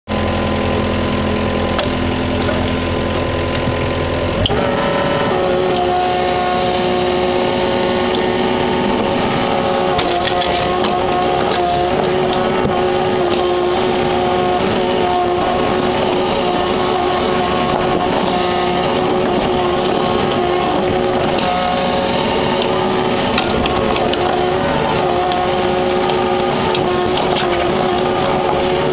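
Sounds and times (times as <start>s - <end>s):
diesel engine running: 0.1s - 28.9s.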